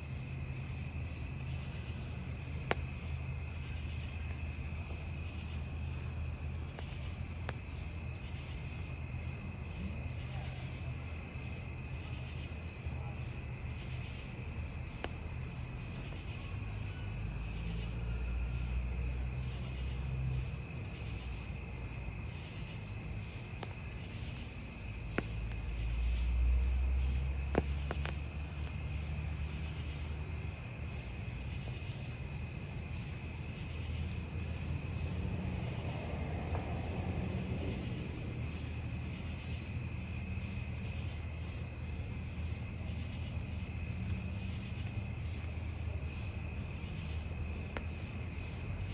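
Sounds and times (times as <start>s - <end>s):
campfire rumbling and crackling: 0.0s - 48.9s
crickets chirping: 0.0s - 48.9s.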